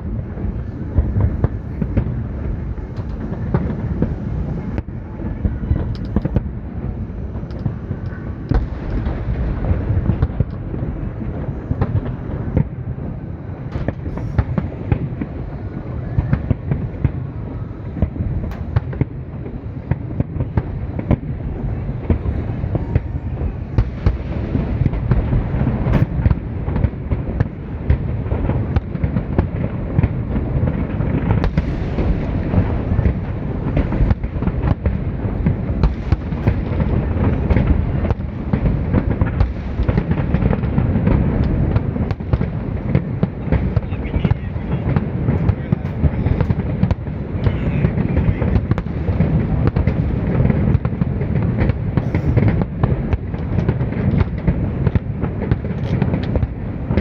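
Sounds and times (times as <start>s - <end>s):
fireworks cracks and bangs: 0.0s - 57.0s
fireworks shells rumbling: 0.0s - 57.0s.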